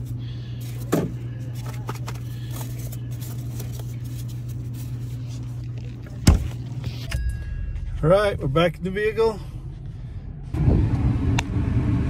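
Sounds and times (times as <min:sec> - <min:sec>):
cooler humming: 0:00.0 - 0:12.0.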